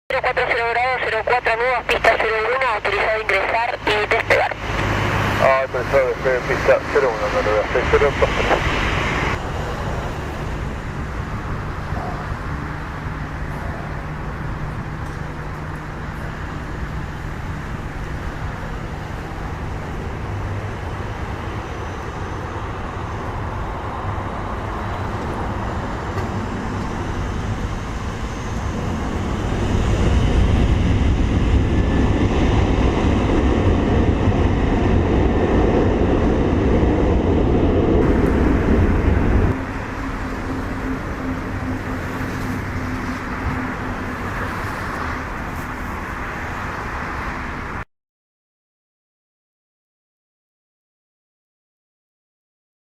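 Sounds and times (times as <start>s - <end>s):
jet engines at takeoff thrust: 0.1s - 47.8s.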